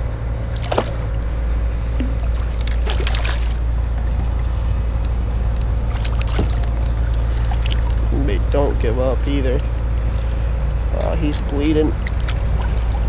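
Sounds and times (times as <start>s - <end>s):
steady low rumble: 0.0s - 13.0s
fish thrashing in water: 0.3s - 13.0s.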